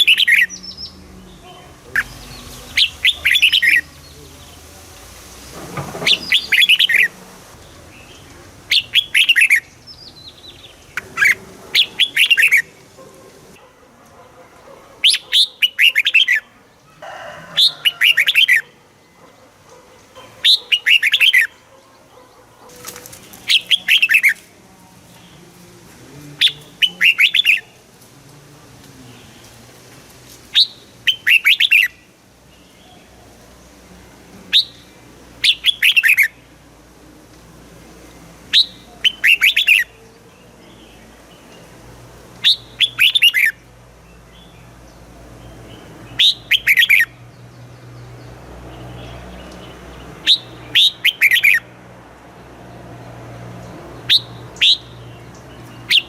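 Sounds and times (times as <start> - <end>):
bird singing: 0.0 - 4.7, 5.5 - 13.7, 14.3 - 24.5, 26.3 - 27.8, 30.5 - 33.8, 34.5 - 36.6, 38.1 - 41.8, 42.4 - 51.7, 53.6 - 56.0.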